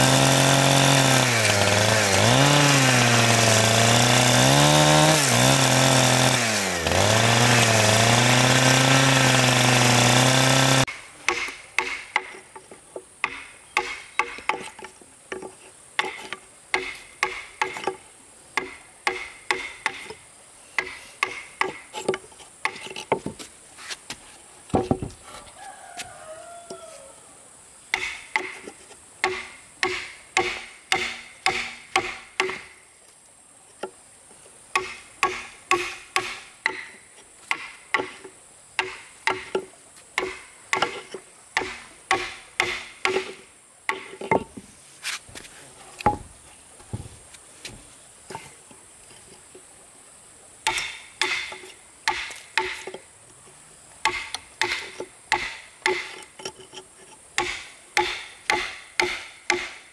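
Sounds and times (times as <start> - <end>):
hand tool striking wood: 0.0 - 18.0, 18.6 - 20.2, 20.8 - 23.5, 24.7 - 25.2, 27.9 - 32.8, 34.7 - 48.6, 50.6 - 53.0, 54.0 - 59.9.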